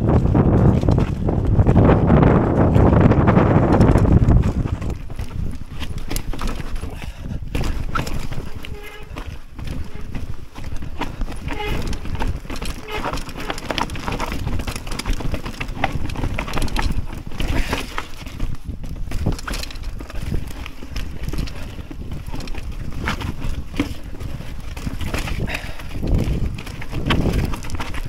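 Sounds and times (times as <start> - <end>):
bike knocking and rattling: 0.0 - 28.0
bike tyres rumbling on trail: 0.0 - 28.0.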